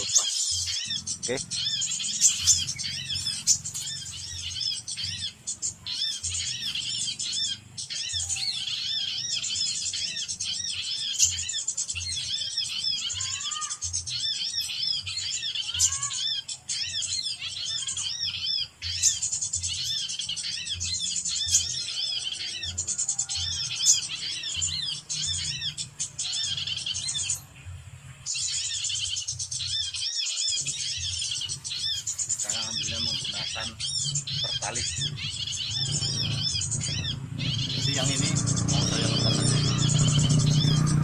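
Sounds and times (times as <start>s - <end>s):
small birds chirping rapidly: 0.0s - 41.0s.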